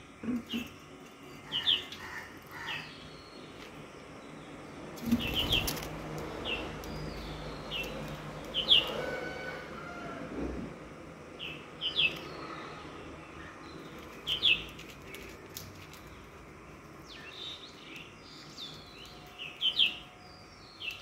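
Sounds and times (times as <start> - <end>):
low hum and hiss: 0.0 - 21.0
lovebirds chirping: 0.2 - 9.2, 11.4 - 21.0.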